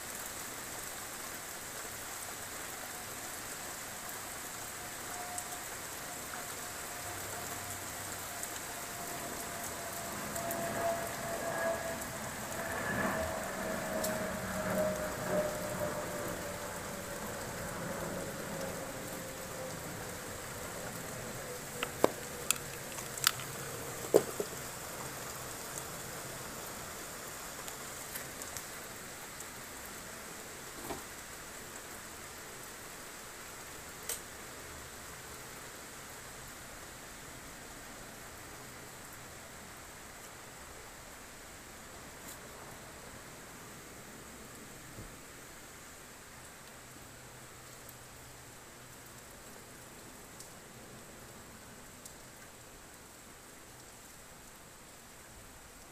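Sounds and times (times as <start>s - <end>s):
rain falling on roofs: 0.0s - 55.9s.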